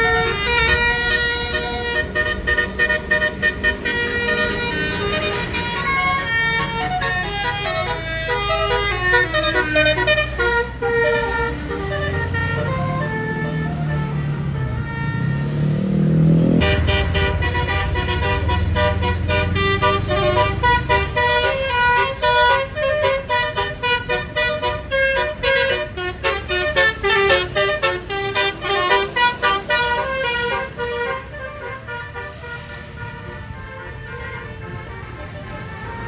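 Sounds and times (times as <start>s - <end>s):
bus engine revving: 0.0s - 36.0s
multi-tone air horn melody: 0.0s - 36.0s.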